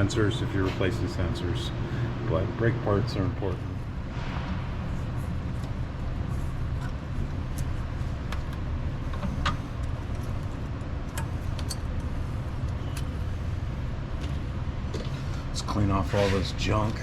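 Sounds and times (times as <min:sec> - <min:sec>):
air compressor droning: 0:00.0 - 0:17.0.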